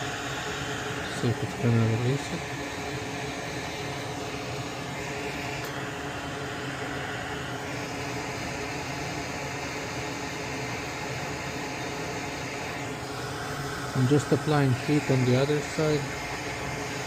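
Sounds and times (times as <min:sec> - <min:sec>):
hot-air station blowing: 0:00.0 - 0:17.0.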